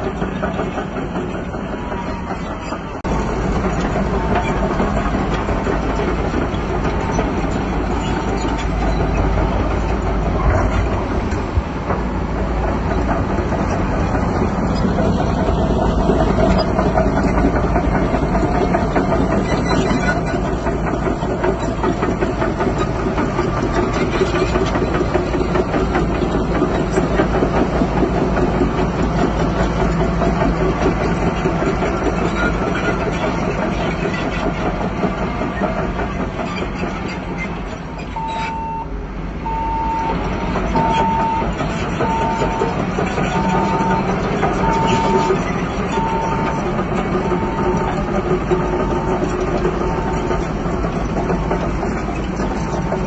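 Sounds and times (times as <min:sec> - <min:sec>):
diesel engine running: 0:00.0 - 0:53.0
steel crawler tracks clattering: 0:00.0 - 0:53.0.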